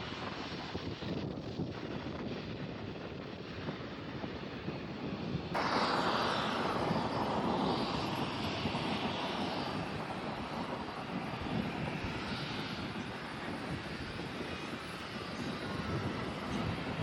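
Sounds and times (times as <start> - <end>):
airliner engine roar: 0.0 - 17.0
wind on microphone: 0.0 - 17.0.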